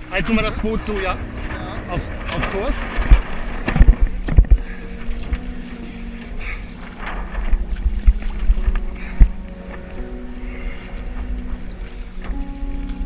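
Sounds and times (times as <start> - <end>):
wind buffeting microphone: 0.0 - 5.6, 6.2 - 13.0
dull low thumps: 0.0 - 13.0
water rushing past hulls: 0.0 - 13.0.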